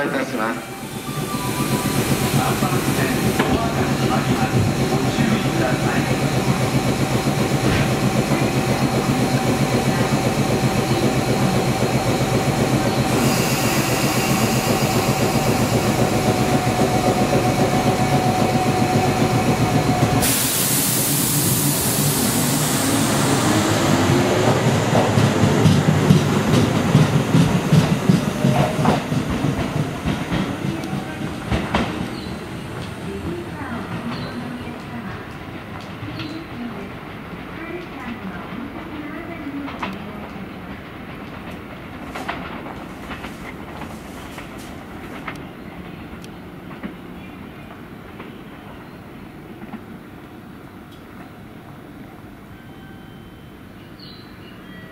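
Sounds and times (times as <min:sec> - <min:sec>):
electric train passing: 0:00.0 - 0:46.8.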